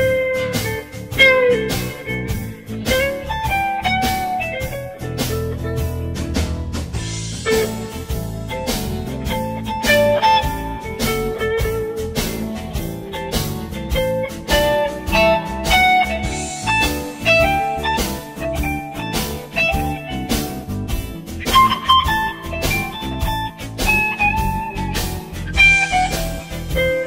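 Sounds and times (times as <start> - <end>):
guitar blues music with beat: 0.0 - 27.0.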